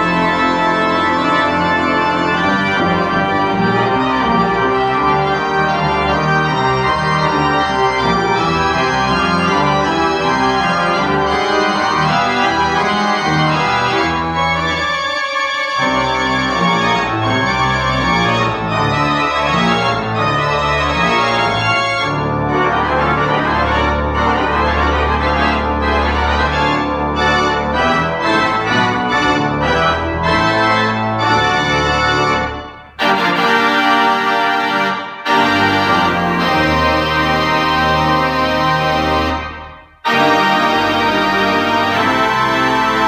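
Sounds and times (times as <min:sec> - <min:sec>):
pipe organ playing loudly: 0:00.0 - 0:43.0.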